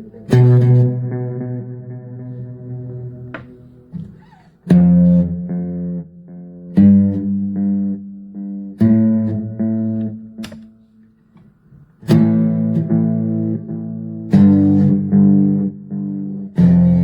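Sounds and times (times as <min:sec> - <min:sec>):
electric guitar strummed chords: 0:00.0 - 0:10.8, 0:12.0 - 0:17.0.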